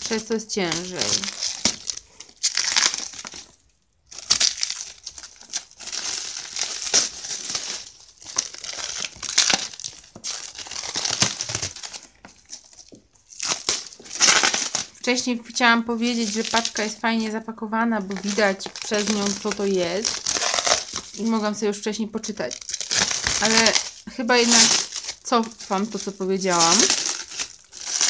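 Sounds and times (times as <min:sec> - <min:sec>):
packaging and tape crinkling: 0:00.0 - 0:28.0.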